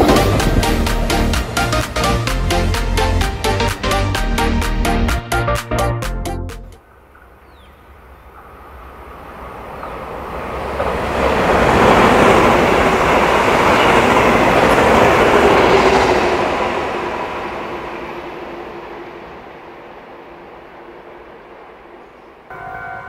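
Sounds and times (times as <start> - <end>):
train passing at speed: 0.0 - 5.6, 6.8 - 23.0.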